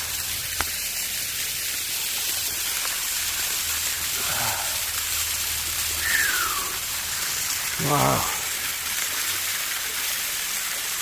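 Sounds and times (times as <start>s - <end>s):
waterfall hissing: 0.0s - 11.0s.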